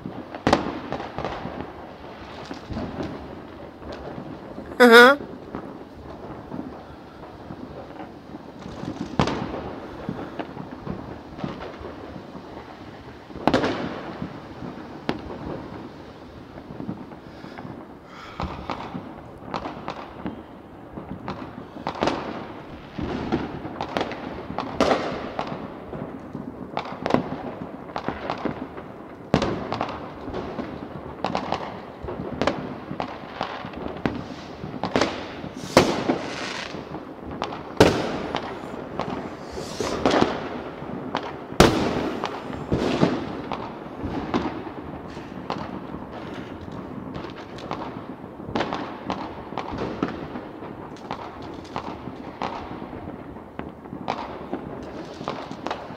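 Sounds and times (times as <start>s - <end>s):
fireworks bangs with echo: 0.0s - 55.9s.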